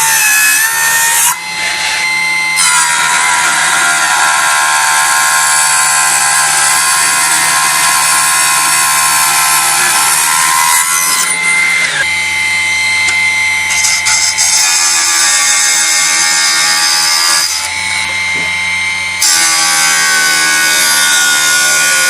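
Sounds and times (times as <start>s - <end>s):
saw blade rasping: 0.0s - 12.1s, 13.7s - 22.0s
table saw whining: 0.0s - 22.0s.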